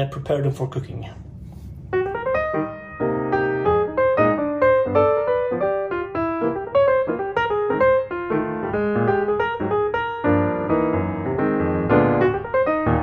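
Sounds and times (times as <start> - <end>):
piano music: 1.9 - 13.0.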